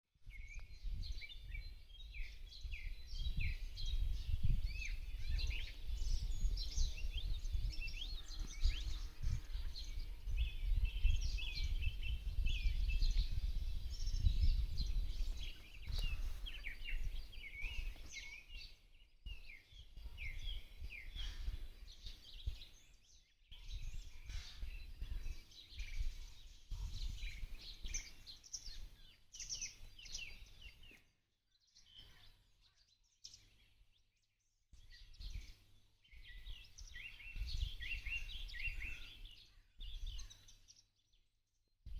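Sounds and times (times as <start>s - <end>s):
songbirds chirping and trilling: 0.1s - 41.9s.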